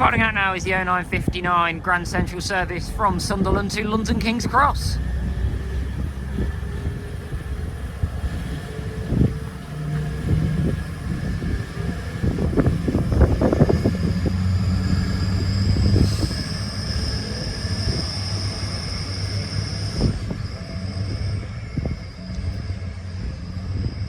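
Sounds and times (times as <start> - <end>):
high whine rising in pitch: 0.0 - 24.0
low train engine hum: 0.0 - 24.0.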